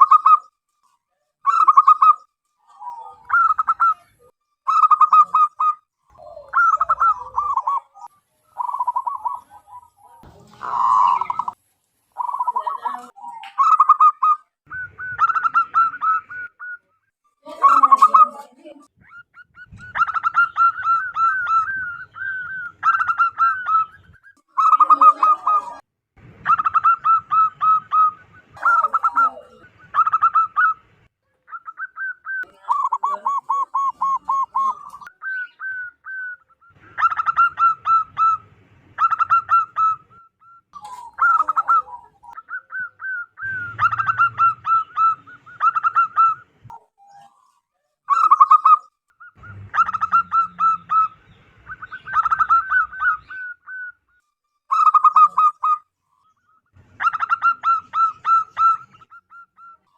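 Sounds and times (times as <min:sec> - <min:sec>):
dove cooing: 0:01.4 - 0:25.8, 0:26.4 - 0:59.9.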